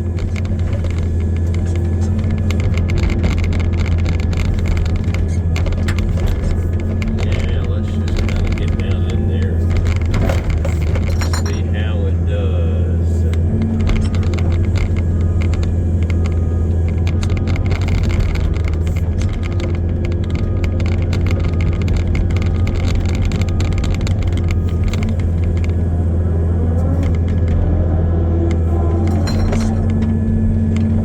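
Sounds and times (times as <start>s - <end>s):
machine rattling clicks and clanks: 0.0s - 12.0s, 13.3s - 25.9s, 28.5s - 31.0s
diesel engine running: 0.0s - 31.0s.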